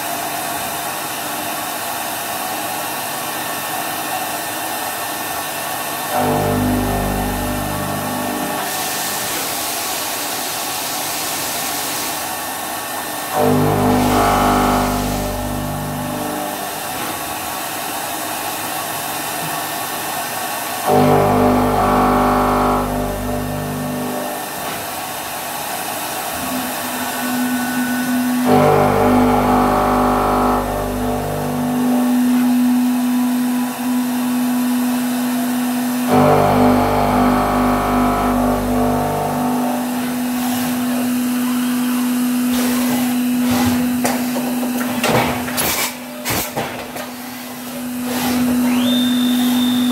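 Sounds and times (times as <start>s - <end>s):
steady machine whine: 0.0s - 49.9s
milling machine spindle running: 5.6s - 18.0s, 18.7s - 49.9s.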